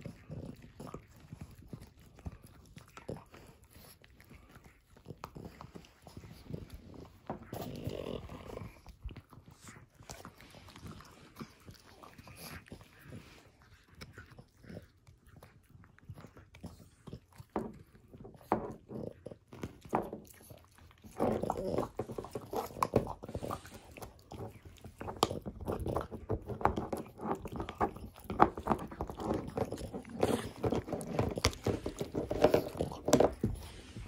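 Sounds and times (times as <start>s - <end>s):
dogs gnawing on chews: 0.0s - 34.0s.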